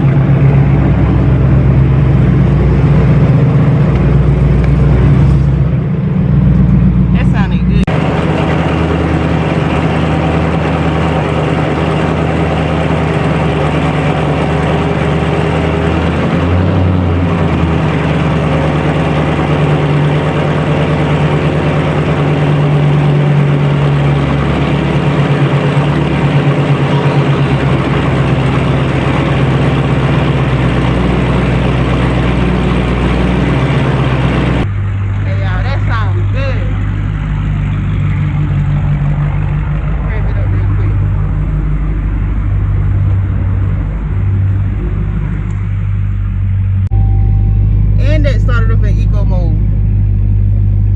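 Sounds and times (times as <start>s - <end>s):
car engine running at low revs: 0.0s - 50.9s.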